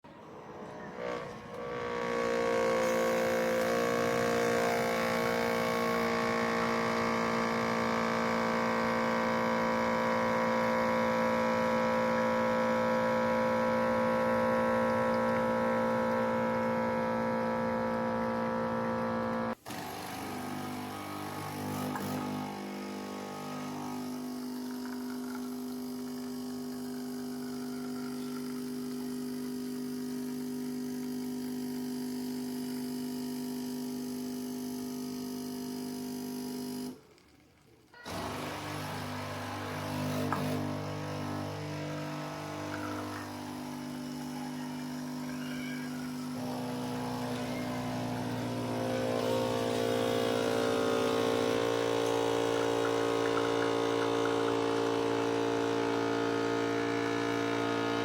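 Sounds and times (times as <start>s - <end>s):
coffee machine pump humming: 0.7s - 58.0s.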